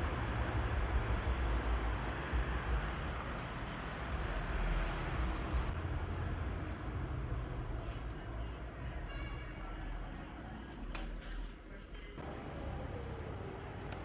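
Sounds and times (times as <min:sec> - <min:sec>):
distant road traffic: 0:00.0 - 0:14.0.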